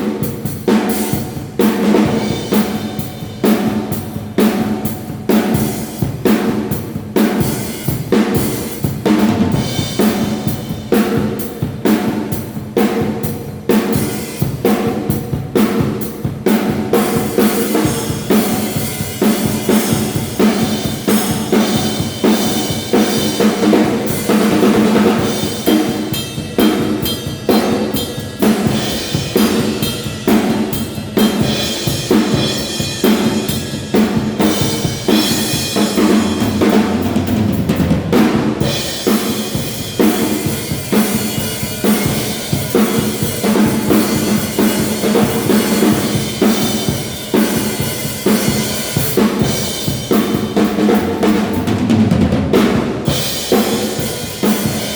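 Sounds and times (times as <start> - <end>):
drum kit groove: 0.0 - 54.9.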